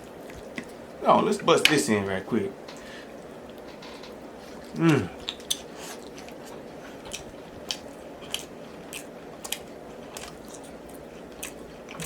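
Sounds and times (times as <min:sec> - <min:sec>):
person chewing with wet smacking: 0:00.0 - 0:01.0, 0:02.7 - 0:12.0.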